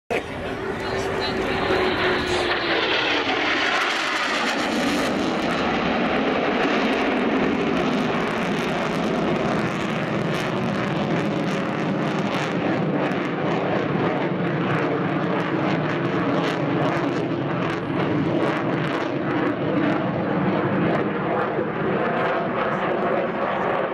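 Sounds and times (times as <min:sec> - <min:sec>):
jet engine roar: 0:00.1 - 0:23.9.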